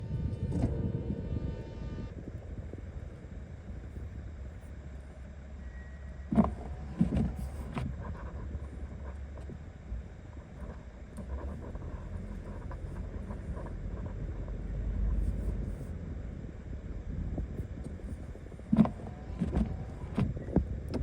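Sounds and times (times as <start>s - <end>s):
pickup engine and road rumble: 0.0s - 21.0s.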